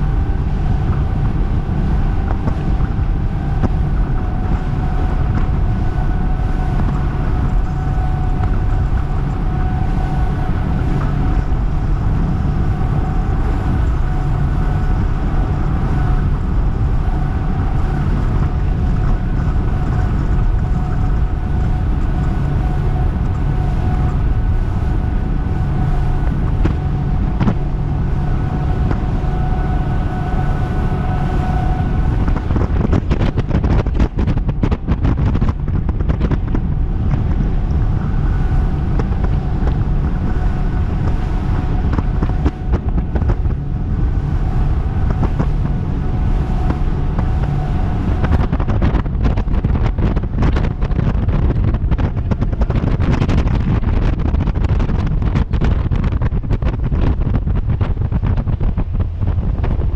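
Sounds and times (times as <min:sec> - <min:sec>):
gusty buffeting and knocks: 0:00.0 - 0:59.9
outboard motors droning: 0:00.0 - 0:59.9
water noise from hull: 0:00.0 - 0:59.9
wind rushing on microphone: 0:00.0 - 0:59.9.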